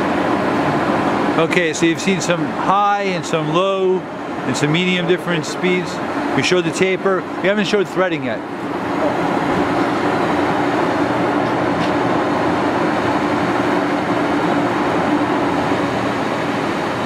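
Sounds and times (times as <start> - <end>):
lathe running: 0.0 - 17.0.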